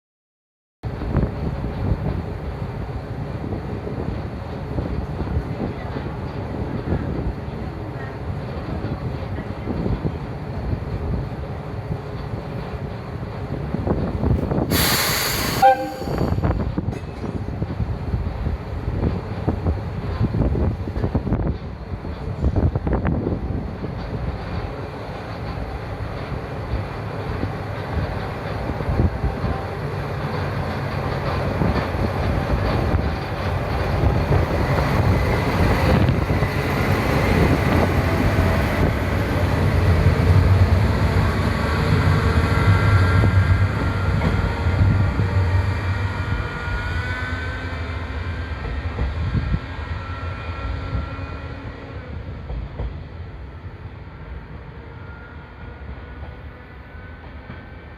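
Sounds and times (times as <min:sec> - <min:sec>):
wheels rumbling on rails: 0:00.9 - 0:14.8, 0:15.6 - 0:57.9
diesel railcar engine: 0:00.9 - 0:57.9.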